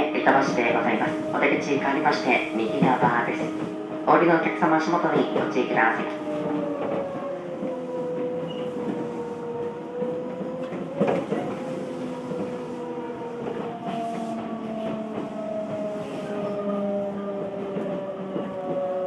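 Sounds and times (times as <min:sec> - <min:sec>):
train clunk: 0:00.0 - 0:19.0.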